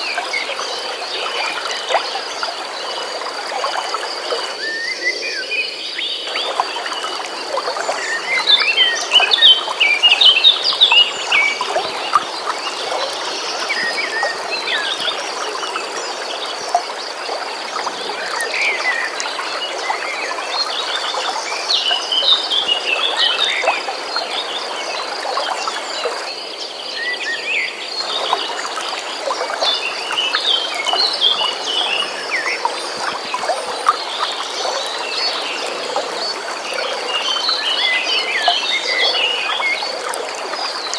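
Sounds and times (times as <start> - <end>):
songbirds chirping: 0.0 - 40.9
stream flowing: 0.0 - 40.9.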